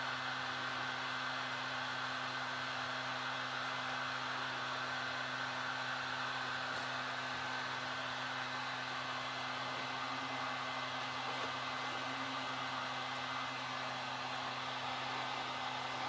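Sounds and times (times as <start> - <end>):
heat gun fan humming: 0.0 - 16.0.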